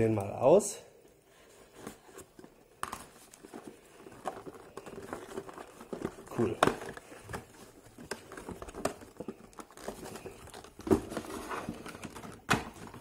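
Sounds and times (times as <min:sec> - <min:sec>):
plastic packaging crinkling: 0:02.0 - 0:13.0.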